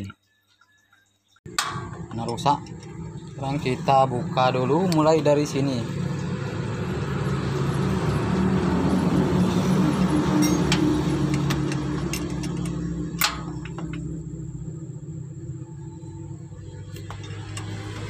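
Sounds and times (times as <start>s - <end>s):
low mechanical hum: 1.5s - 18.0s.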